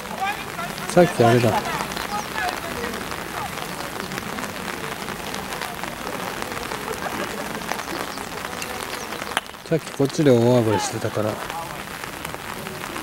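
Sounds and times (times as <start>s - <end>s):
faint voices: 0.0s - 13.0s
rain patter: 0.0s - 13.0s.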